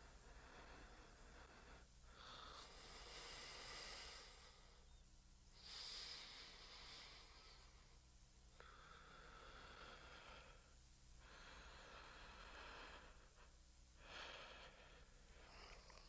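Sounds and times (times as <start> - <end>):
slow breathing: 0.0 - 5.0, 5.6 - 16.0
low steady hum: 0.0 - 16.0.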